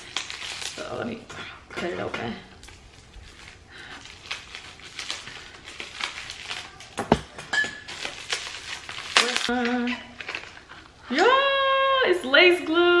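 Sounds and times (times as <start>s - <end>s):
plastic packaging rustling: 0.0s - 10.9s.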